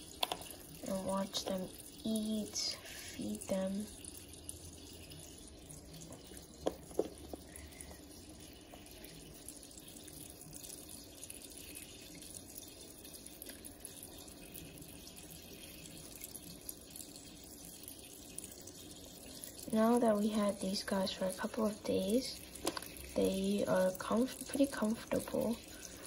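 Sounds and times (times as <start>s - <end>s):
filter water trickling: 0.0s - 26.0s.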